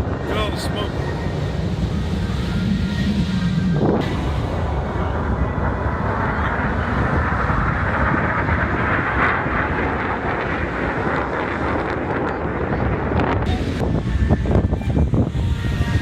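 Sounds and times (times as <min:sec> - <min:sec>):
plane flying past: 0:00.0 - 0:16.0.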